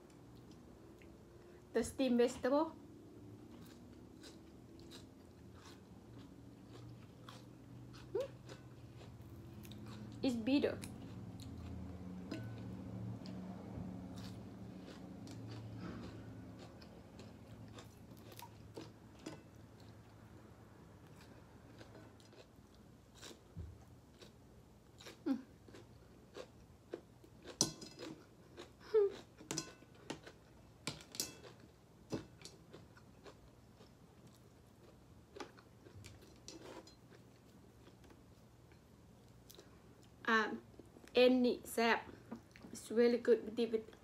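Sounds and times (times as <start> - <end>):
person chewing food: 3.4 - 10.2, 10.8 - 41.1.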